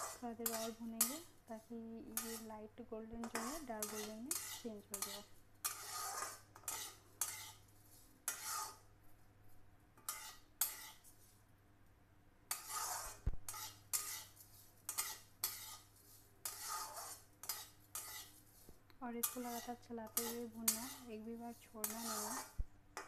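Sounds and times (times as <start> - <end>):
spatula scraping a metal pan: 0.0 - 2.5, 3.2 - 8.9, 10.0 - 11.4, 12.5 - 23.0.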